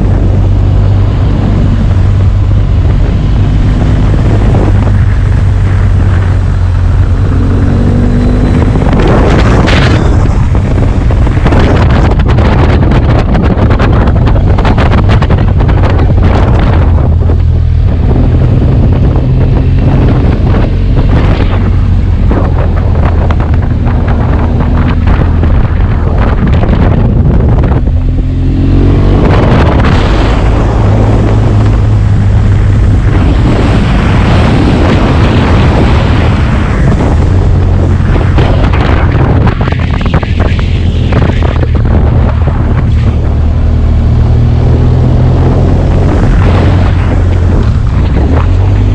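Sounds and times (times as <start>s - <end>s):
motorcycle engine revving: 0.0s - 48.9s
wind on microphone: 0.0s - 48.9s.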